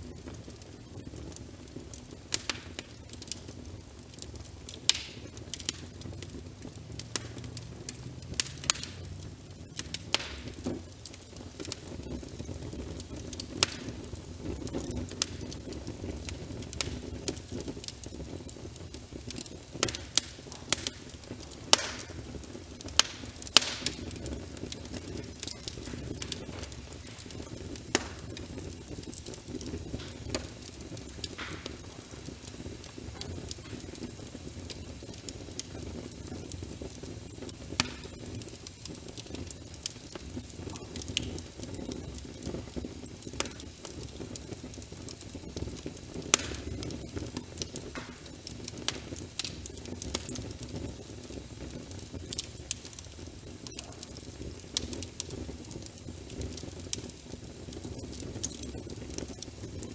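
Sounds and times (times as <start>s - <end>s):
rain pattering: 0.0s - 59.9s
wood fire crackling and popping: 0.0s - 59.9s.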